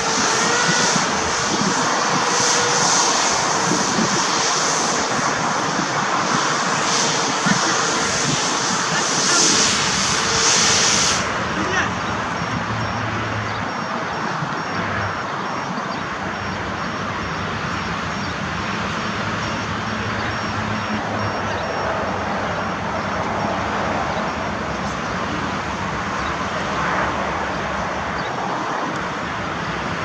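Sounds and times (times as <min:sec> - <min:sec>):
electric propeller fans whirring: 0:00.0 - 0:30.0.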